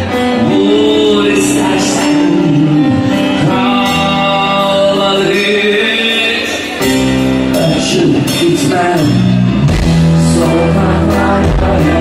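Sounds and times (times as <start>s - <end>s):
live band with man singing: 0.0s - 12.0s.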